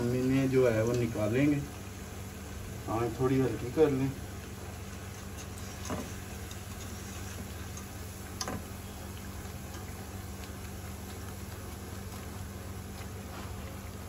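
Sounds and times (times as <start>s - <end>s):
hot oil sizzling and bubbling: 0.0s - 14.0s.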